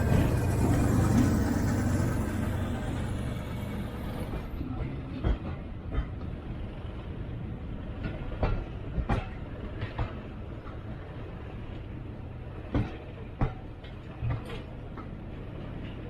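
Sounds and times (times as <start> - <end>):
wheels clunking over rail joints: 0.0 - 10.9, 11.7 - 16.0
train rumbling on track: 0.0 - 16.0.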